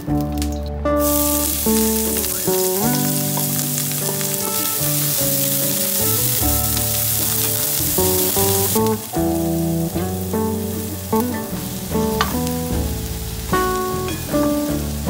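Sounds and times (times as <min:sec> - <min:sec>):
background music: 0:00.0 - 0:15.0
onion sizzling in a frying pan: 0:01.0 - 0:15.0.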